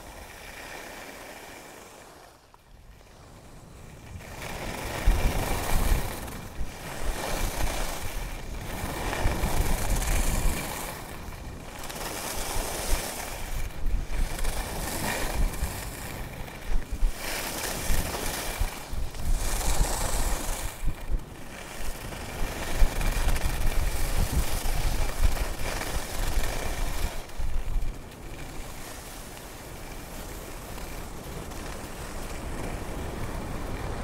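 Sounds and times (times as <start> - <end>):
skis hissing over snow: 0.0 - 2.5, 3.1 - 34.0
wind rumbling on microphone: 2.7 - 34.0.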